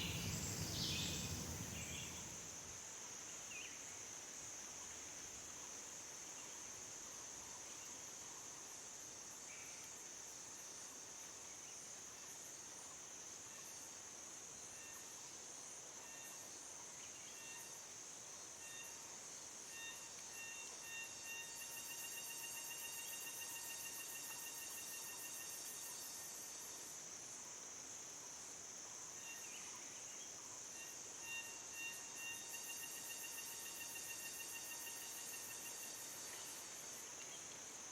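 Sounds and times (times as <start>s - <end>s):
crickets droning: 0.0s - 9.6s, 10.3s - 37.9s.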